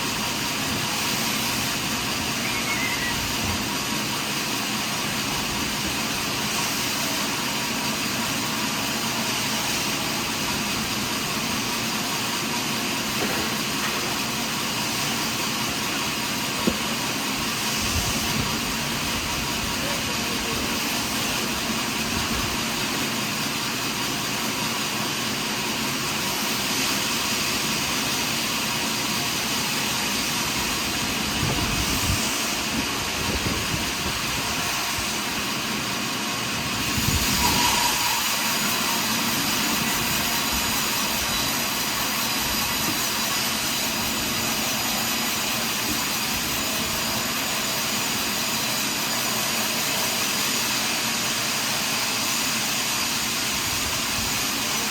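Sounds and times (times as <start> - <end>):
sawmill cutting log: 0.0 - 54.9.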